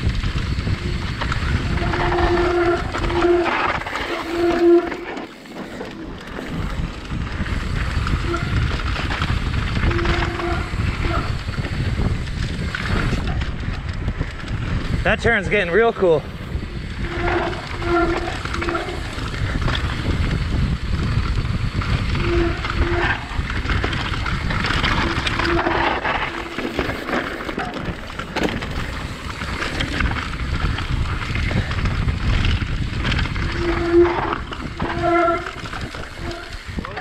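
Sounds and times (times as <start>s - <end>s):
tyres rolling over dirt and rocks: 0.0s - 37.0s
wind noise on microphone: 0.0s - 37.0s.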